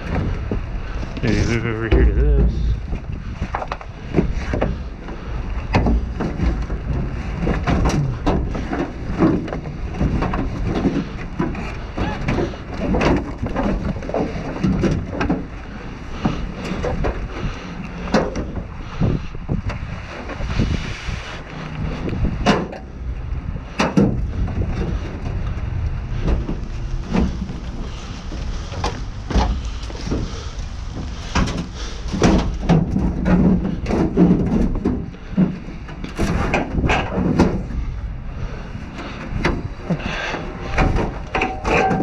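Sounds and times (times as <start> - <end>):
scrap clattering in a dumpster: 0.0 - 42.0
wind rumble on microphone: 0.0 - 42.0.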